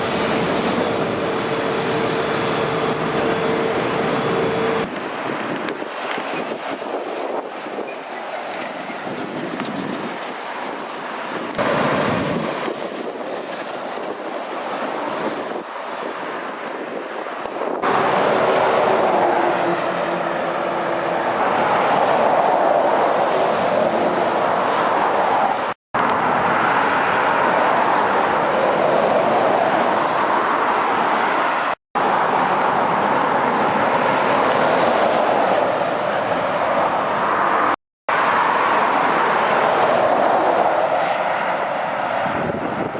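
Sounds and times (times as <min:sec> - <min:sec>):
traffic passing: 0:00.0 - 0:42.9.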